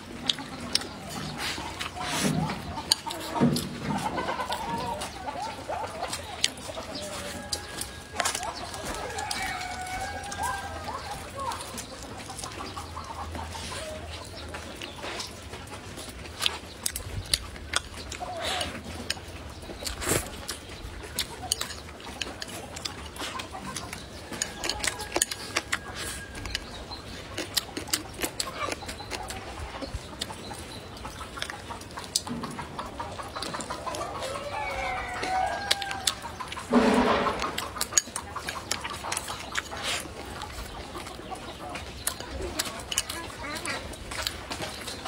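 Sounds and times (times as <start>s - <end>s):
chewing and lip smacks: 0.0s - 36.7s, 37.4s - 45.0s
chickens clucking: 0.0s - 45.0s.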